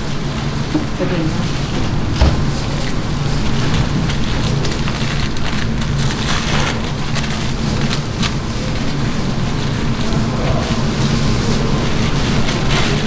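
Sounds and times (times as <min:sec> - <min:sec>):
continuous low hum: 0:00.0 - 0:13.0.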